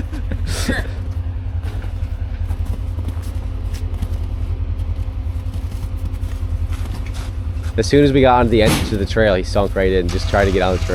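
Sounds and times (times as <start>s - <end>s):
utility vehicle engine idling: 0.0s - 10.9s.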